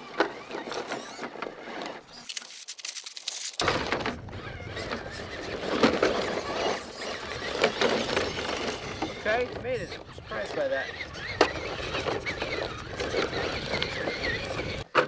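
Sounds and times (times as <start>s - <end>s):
electric drivetrain whining: 0.0s - 15.0s.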